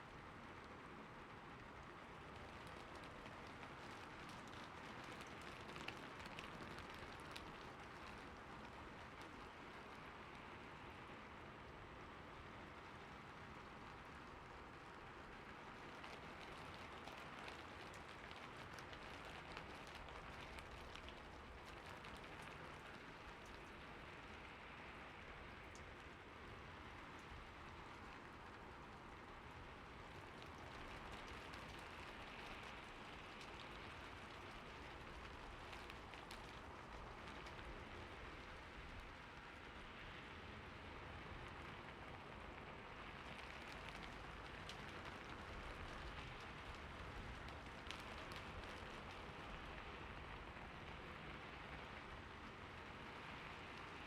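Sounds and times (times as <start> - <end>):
soft rain pattering: 0.0 - 54.0.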